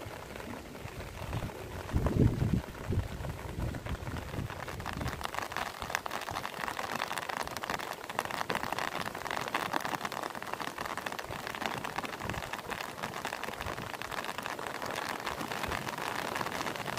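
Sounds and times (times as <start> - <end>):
heavy rain on water and grass: 0.0 - 16.9.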